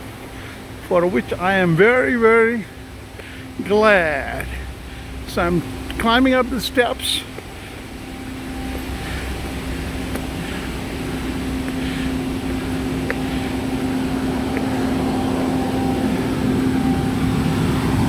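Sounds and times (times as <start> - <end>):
engine hum: 0.0 - 18.0
traffic rumble: 0.0 - 18.0.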